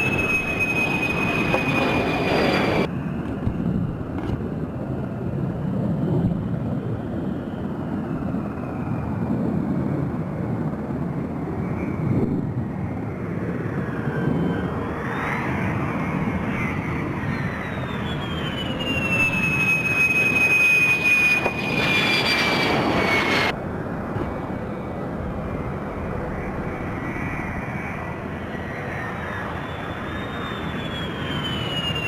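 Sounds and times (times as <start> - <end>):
jet engine whine: 0.0 - 32.0.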